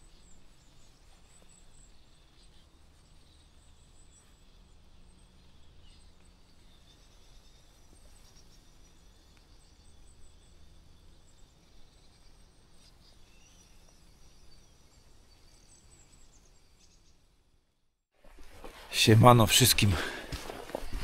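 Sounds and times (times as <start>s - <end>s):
faint bird chirps: 0.0s - 17.8s.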